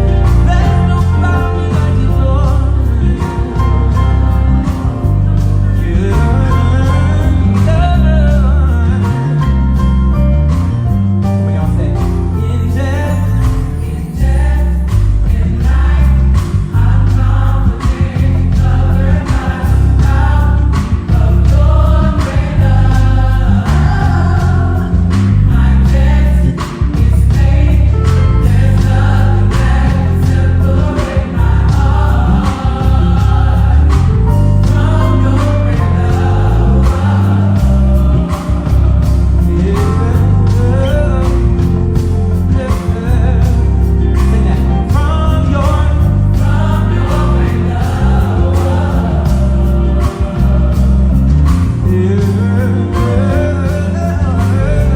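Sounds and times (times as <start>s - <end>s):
drums keeping a steady beat: 0.0s - 9.9s, 13.4s - 54.9s
electric bass line: 0.0s - 54.9s
vocal ensemble singing gospel: 0.0s - 54.9s.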